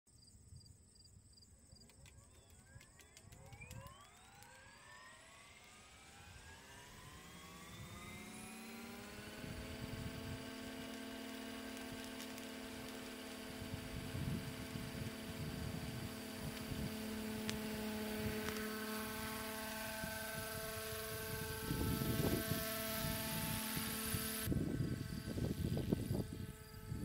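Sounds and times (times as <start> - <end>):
electric motor whine rising: 1.8 - 27.0.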